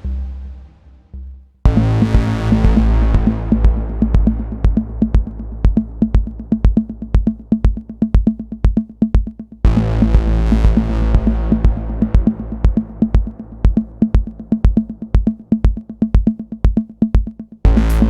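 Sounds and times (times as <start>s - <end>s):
held synth chords: 0.0s - 18.0s
low synth bass: 0.0s - 18.0s
drum machine hits: 1.7s - 18.0s.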